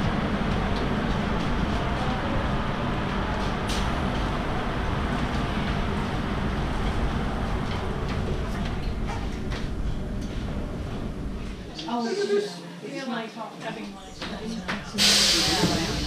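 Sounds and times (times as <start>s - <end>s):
low rumble inside train car: 0.0s - 12.0s, 13.9s - 16.0s.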